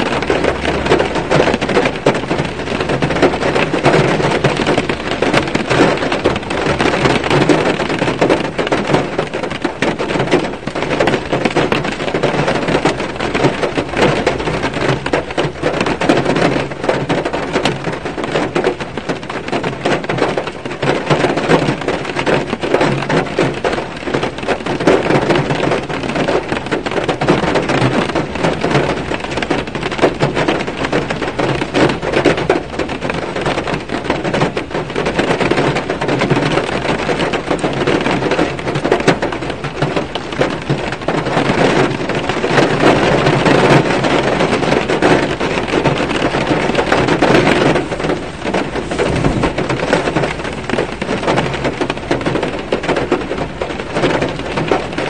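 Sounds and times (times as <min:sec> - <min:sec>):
rain pattering on car: 0:00.0 - 0:55.0.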